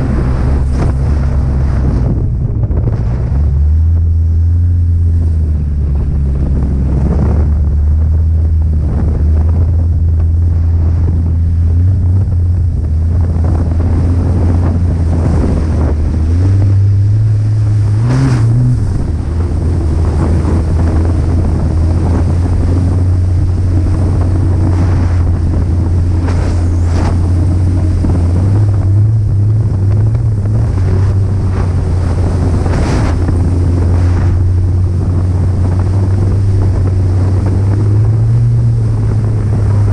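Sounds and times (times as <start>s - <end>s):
snowmobile engine drone: 0.0s - 39.9s
wind buffeting microphone: 0.0s - 39.9s.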